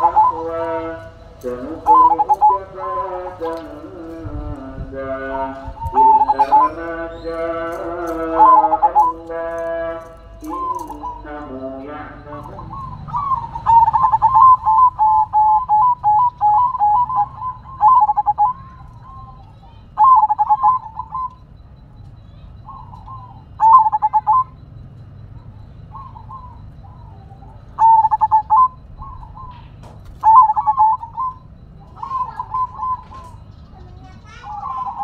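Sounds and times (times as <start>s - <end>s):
dove cooing: 0.0s - 35.0s.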